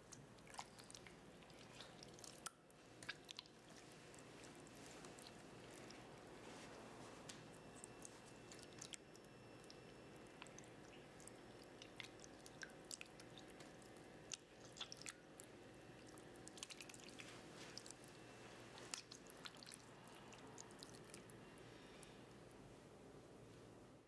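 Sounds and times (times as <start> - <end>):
small clicks and squishes: 0.0 - 21.4
tomatoes squelching by hand: 0.0 - 21.4.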